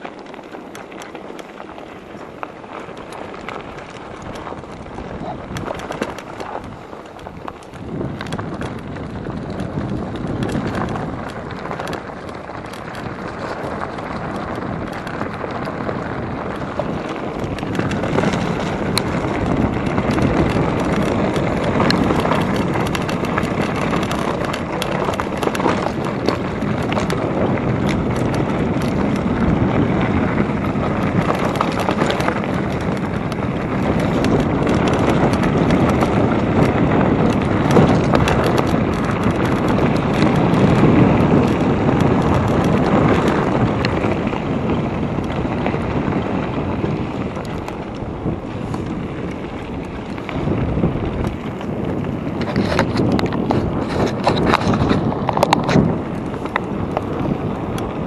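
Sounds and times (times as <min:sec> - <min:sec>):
bike rattling and knocking: 0:00.0 - 0:58.0
bike tyre noise: 0:00.0 - 0:58.0
wind rushing over microphone: 0:00.0 - 0:58.0.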